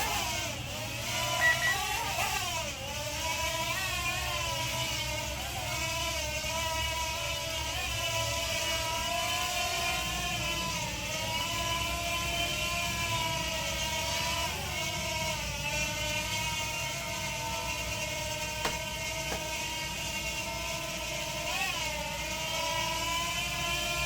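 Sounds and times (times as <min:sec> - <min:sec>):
toy drone motors whining: 0:00.0 - 0:24.0.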